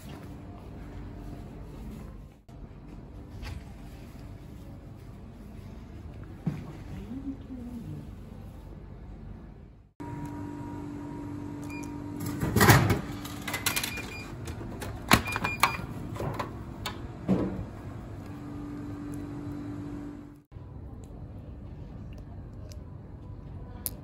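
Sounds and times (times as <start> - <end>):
vending machine hum: 0.0 - 23.8.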